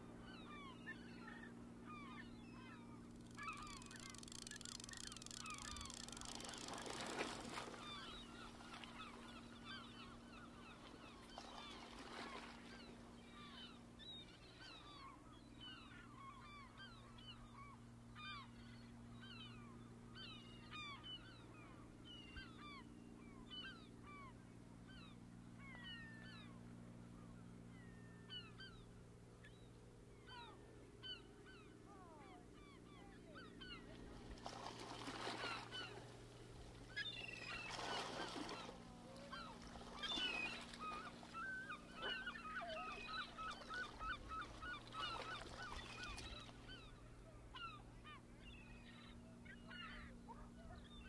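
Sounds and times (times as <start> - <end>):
faint low steady hum: 0.0 - 51.0
birds chirping: 0.2 - 23.9, 27.2 - 51.0.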